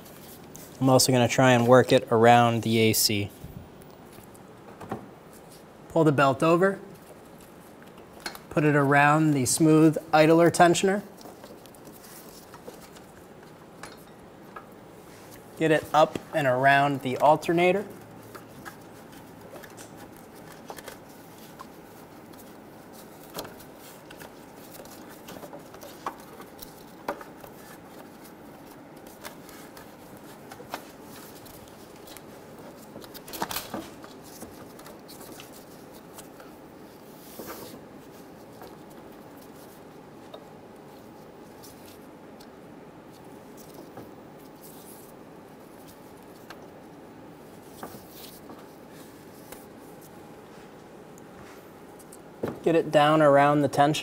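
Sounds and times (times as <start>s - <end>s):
low background noise: 0.0s - 54.0s.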